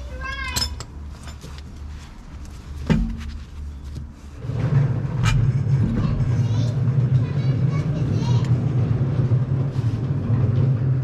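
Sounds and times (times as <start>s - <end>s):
engine humming low: 0.0s - 11.0s.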